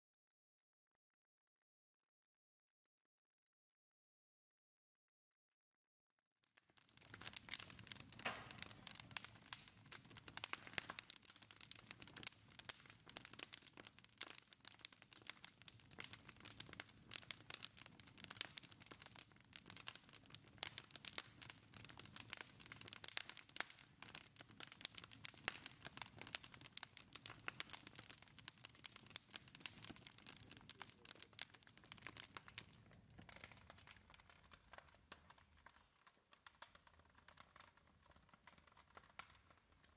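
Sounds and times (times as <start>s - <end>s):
wood fire crackling: 6.5s - 39.9s.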